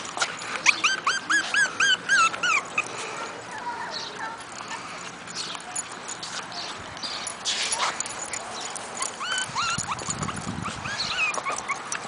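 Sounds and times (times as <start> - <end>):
puppies whimpering: 0.2 - 12.0.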